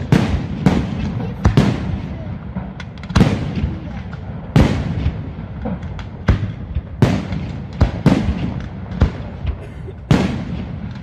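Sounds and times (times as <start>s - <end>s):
continuous low rumble: 0.0s - 11.0s
firework bangs: 0.0s - 11.0s.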